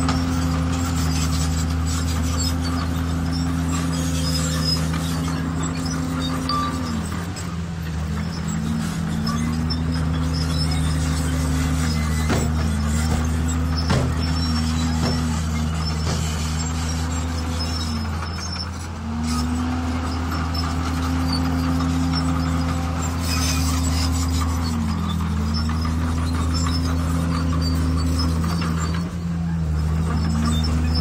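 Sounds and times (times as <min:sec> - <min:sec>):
heavy diesel engine under load: 0:00.0 - 0:31.0.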